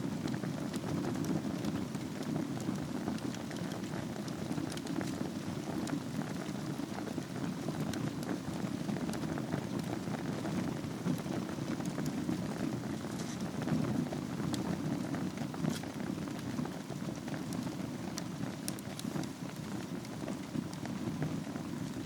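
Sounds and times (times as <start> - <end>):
fire crackles and pops: 0.0 - 22.0
wood fire low rushing: 0.0 - 22.0.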